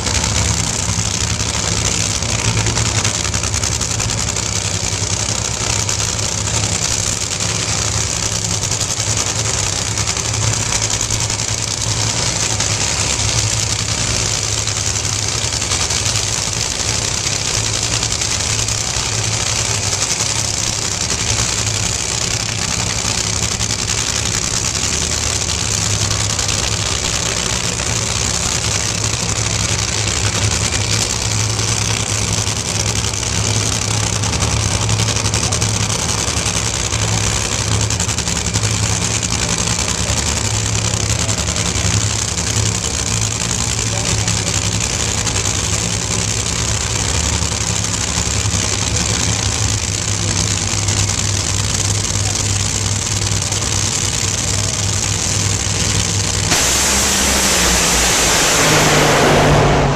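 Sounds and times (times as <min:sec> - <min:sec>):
loud race car engines idling: 0:00.0 - 0:59.9.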